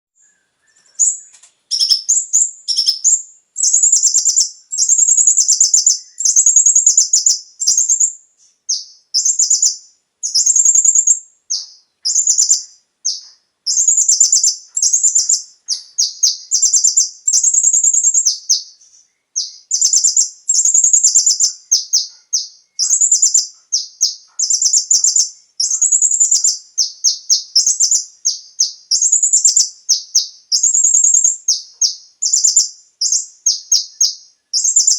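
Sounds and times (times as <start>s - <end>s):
sunbird chirps and trills: 0.2s - 34.9s.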